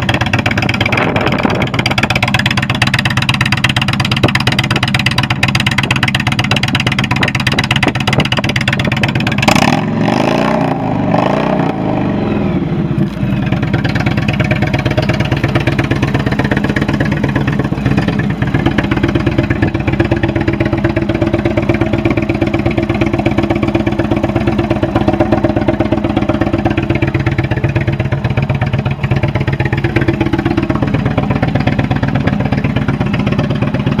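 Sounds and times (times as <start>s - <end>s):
motorcycle engine idling: 0.0s - 10.0s, 11.9s - 34.0s.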